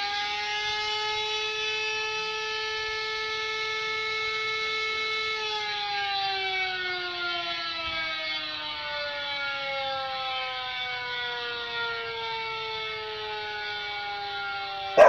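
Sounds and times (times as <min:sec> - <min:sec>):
siren winding down: 0:00.0 - 0:15.0.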